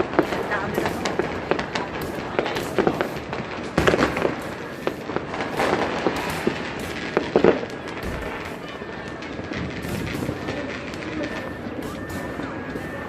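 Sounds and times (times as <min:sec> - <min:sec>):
fireworks and firecrackers crackling: 0:00.0 - 0:13.0.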